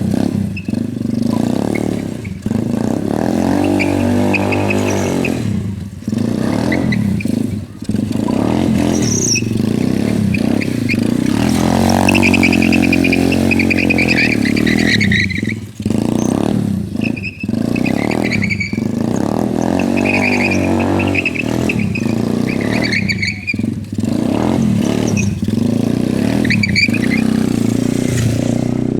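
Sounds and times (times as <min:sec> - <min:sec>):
atv engine revving: 0:00.0 - 0:28.9.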